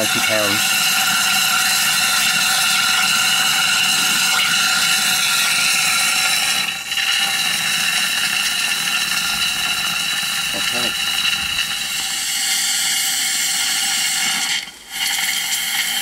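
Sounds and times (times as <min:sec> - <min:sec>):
steam hissing with whistle: 0:00.0 - 0:16.0.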